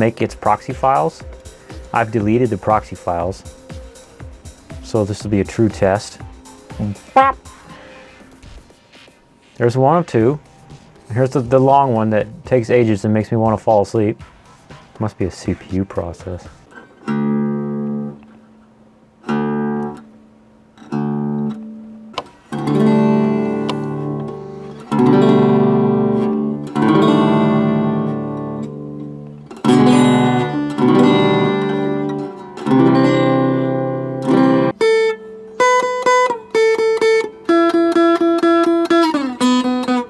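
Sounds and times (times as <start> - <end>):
acoustic guitar strumming: 0.0 - 15.1, 15.7 - 40.0.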